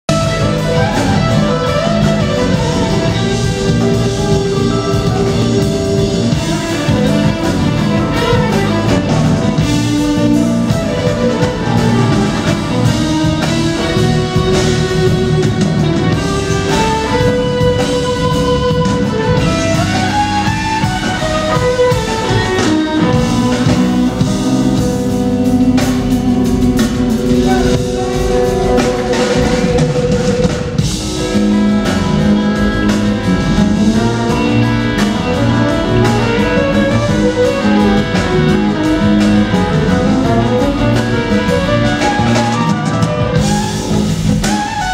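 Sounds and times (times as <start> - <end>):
keyboards: 0.0 - 44.9
drum beat: 0.1 - 44.9
electric guitar: 0.1 - 44.9.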